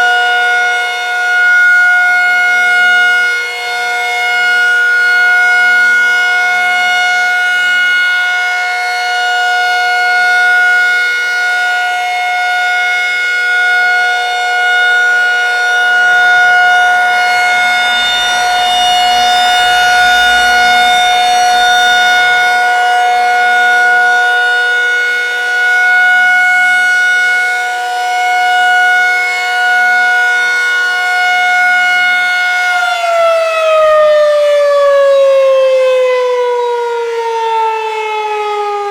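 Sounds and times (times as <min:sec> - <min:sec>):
warning siren: 0:00.0 - 0:38.9.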